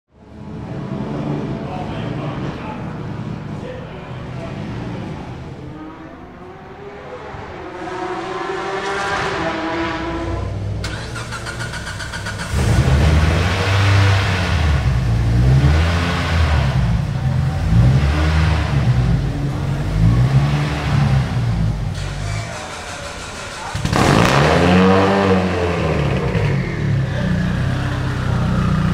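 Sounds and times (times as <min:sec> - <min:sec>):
race car engine revving: 0:00.3 - 0:28.9.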